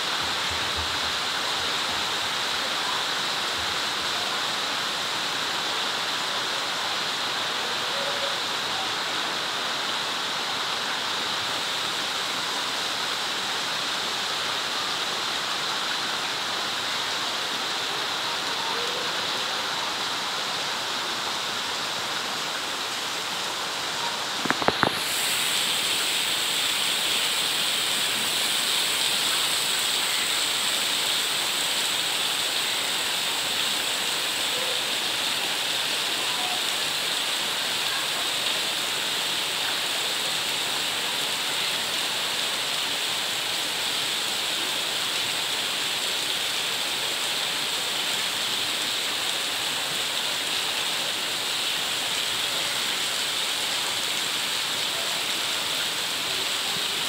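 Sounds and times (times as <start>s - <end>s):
rain falling through leaves: 0.0s - 57.0s.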